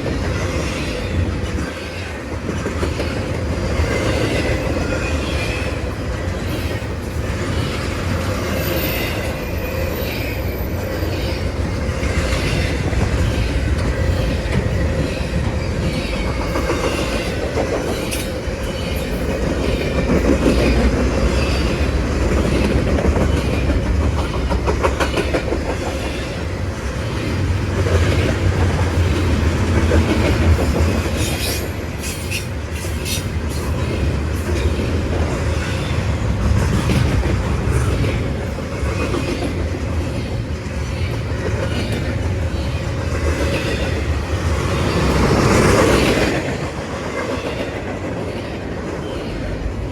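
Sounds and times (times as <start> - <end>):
clickety-clack over rail joints: 0.0 - 49.9
freight train wheels rumbling: 0.0 - 49.9.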